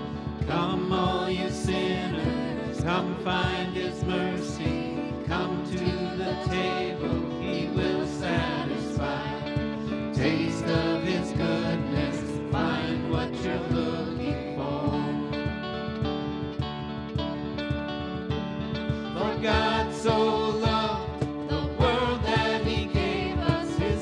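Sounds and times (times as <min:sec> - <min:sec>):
group of people singing: 0:00.0 - 0:15.9, 0:19.0 - 0:24.0
acoustic guitar: 0:00.0 - 0:24.0.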